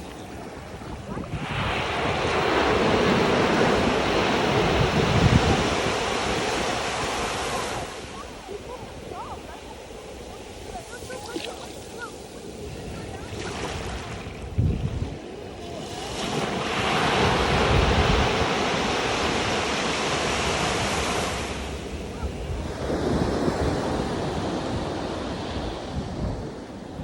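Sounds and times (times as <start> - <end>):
ocean surf breaking: 0.0 - 27.0
wind rumbling on microphone: 0.0 - 27.0.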